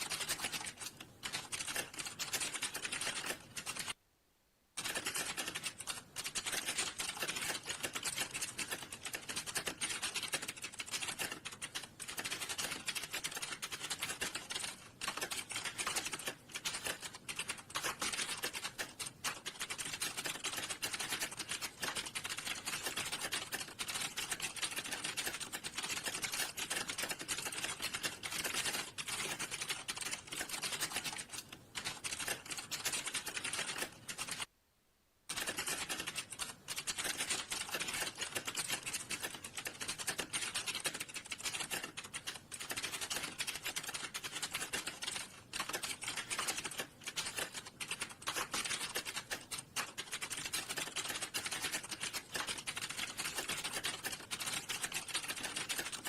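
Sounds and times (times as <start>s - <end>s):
fast typing on a computer keyboard: 0.0s - 4.0s, 4.8s - 34.5s, 35.3s - 56.0s.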